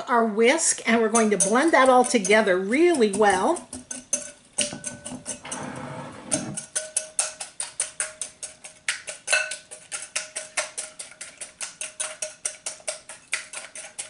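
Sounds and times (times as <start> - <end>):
whisk clinking against glass bowl: 0.9 - 5.8, 6.5 - 14.0.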